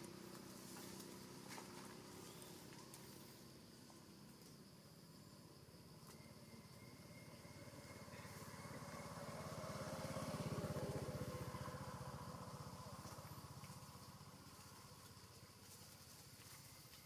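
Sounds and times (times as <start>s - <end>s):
motorcycle passing by: 0.0s - 3.9s, 6.4s - 16.3s.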